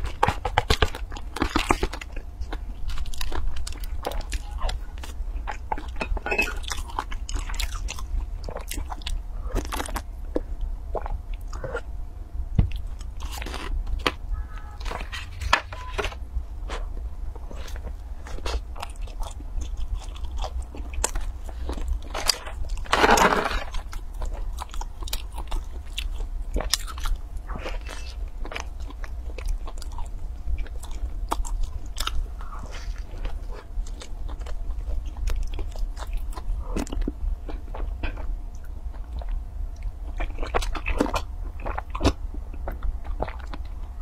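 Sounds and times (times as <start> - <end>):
crisp pastry bites and crunches: 0.0 - 11.6, 12.7 - 44.0
chewing: 0.0 - 11.9, 12.7 - 44.0.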